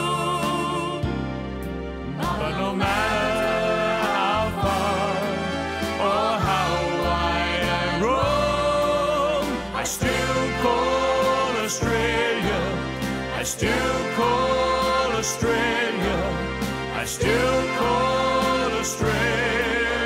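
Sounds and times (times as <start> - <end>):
song with singing voices: 0.0 - 20.0.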